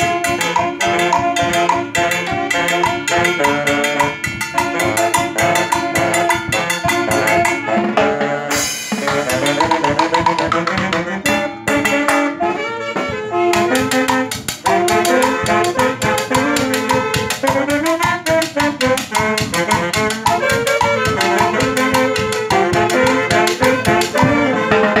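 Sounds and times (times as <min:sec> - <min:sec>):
drums and cymbal beat: 0:00.0 - 0:25.0
saxophones playing melody: 0:00.0 - 0:25.0.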